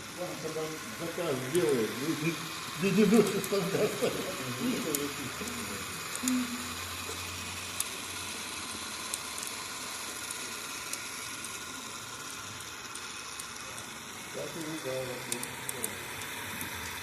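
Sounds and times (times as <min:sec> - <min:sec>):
plastic strip hissing through cutter: 0:00.0 - 0:17.0.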